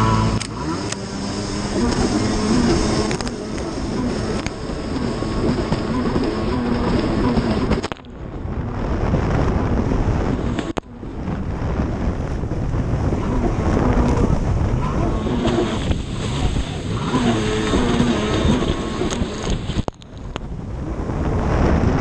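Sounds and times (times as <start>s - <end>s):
jet ski engine running hard: 0.0s - 22.0s
wind buffeting on microphone: 0.0s - 22.0s.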